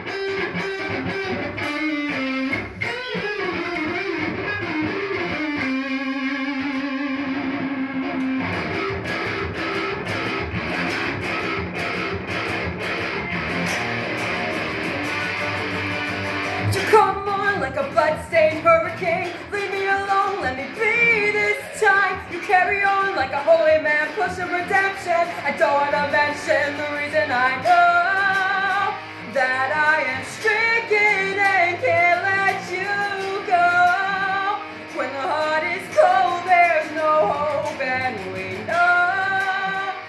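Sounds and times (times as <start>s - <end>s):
electric guitar through amp: 0.0s - 40.0s.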